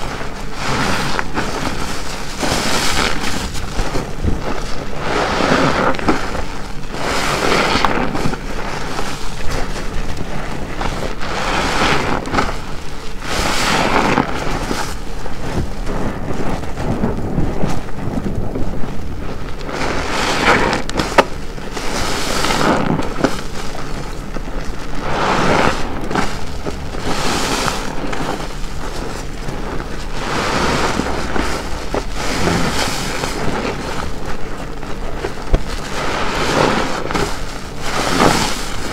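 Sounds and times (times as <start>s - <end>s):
sponge squelching: 0.0s - 38.9s.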